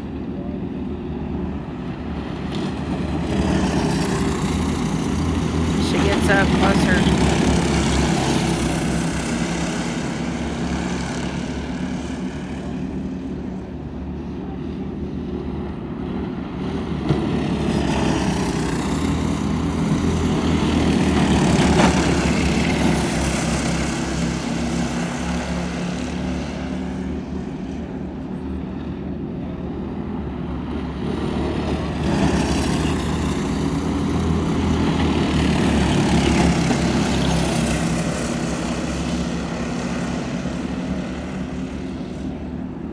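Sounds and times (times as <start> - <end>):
go-kart engines racing: 0.0 - 42.9.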